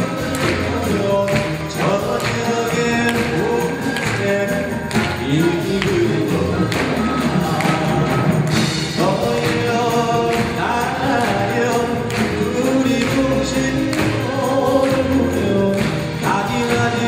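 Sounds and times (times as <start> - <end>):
man singing through a microphone: 0.0 - 17.0
traditional orchestra playing: 0.0 - 17.0.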